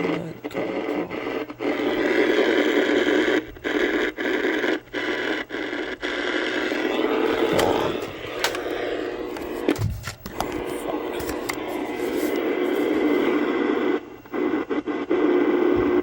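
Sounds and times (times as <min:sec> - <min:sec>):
radio static hiss and crackle: 0:00.0 - 0:16.0.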